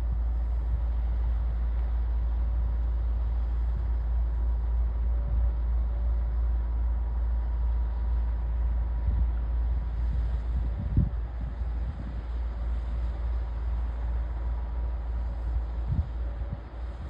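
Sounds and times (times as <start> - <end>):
faint constant hum: 0.0 - 17.0
ship engine rumble: 0.0 - 17.0.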